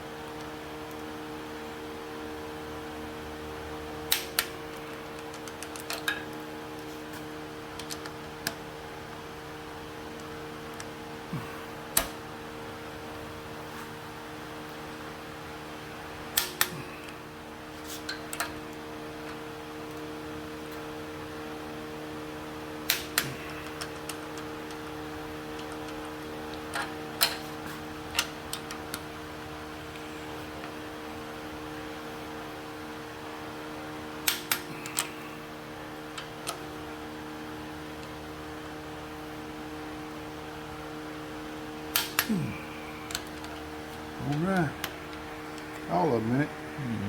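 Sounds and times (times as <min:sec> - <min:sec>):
electric fan hum: 0:00.0 - 0:47.0.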